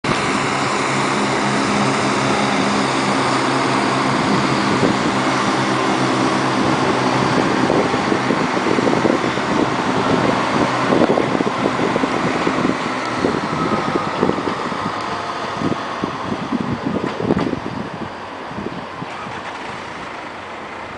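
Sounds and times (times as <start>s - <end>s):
diesel train engine drone: 0.0s - 20.9s.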